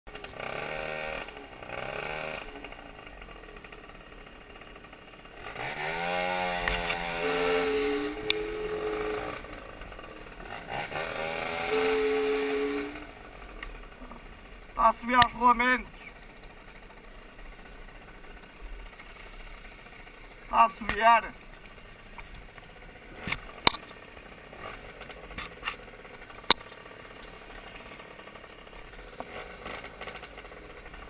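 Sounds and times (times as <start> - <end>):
scooter engine revving: 0.1 - 31.0.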